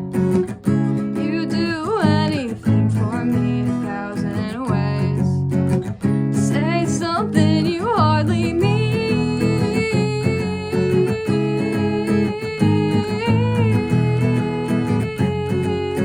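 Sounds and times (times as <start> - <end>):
acoustic guitar strumming: 0.0 - 16.0
person singing: 0.9 - 5.4, 6.3 - 16.0.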